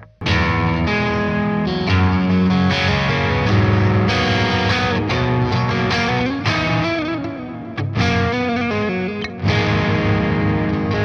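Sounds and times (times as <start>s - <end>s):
distorted electric guitar: 0.0s - 11.0s.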